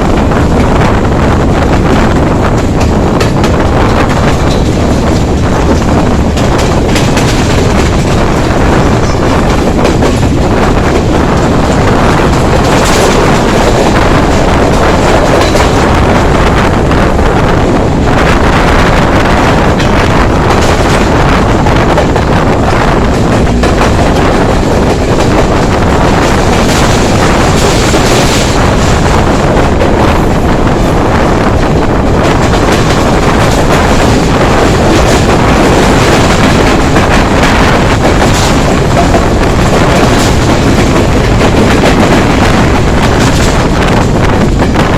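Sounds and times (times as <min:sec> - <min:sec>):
moving train rumble: 0:00.0 - 0:44.9
wind buffeting microphone: 0:00.0 - 0:44.9.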